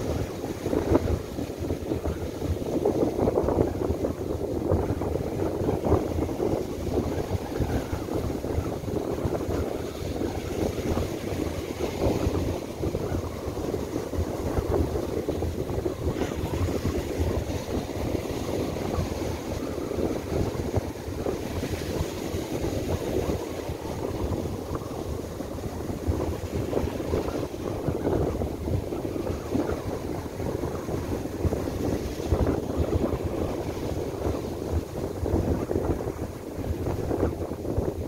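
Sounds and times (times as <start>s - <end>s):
surf breaking on beach: 0.0s - 38.0s
wind buffeting microphone: 0.0s - 38.0s.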